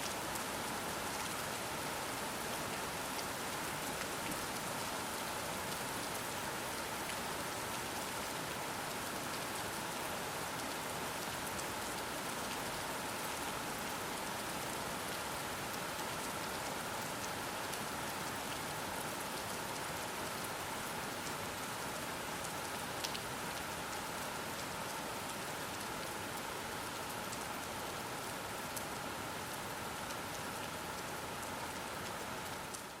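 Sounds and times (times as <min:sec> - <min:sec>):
soft rain falling: 0:00.0 - 0:33.0.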